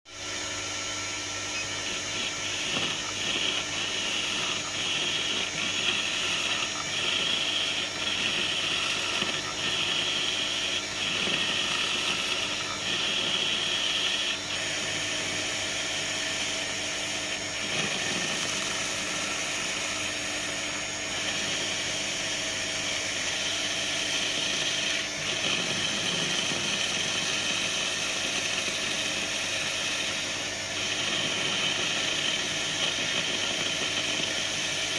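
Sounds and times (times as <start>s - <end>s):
metal lathe drone: 0.1s - 34.9s.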